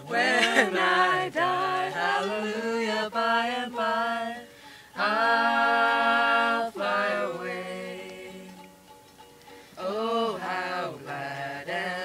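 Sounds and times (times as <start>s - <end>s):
group singing a hymn: 0.0s - 8.7s, 9.8s - 12.0s
ukulele: 0.0s - 12.0s.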